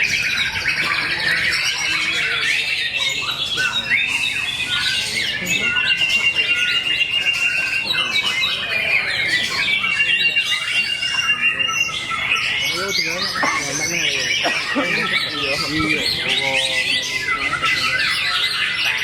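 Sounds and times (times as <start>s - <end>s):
high bird trill: 0.0s - 19.0s
songbirds singing: 0.0s - 19.0s.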